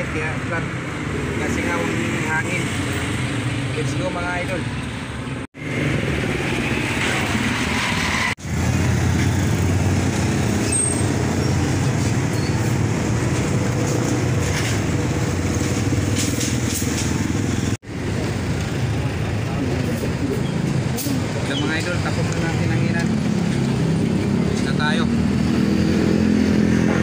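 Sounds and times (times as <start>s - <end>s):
traffic engines passing: 0.0s - 27.0s.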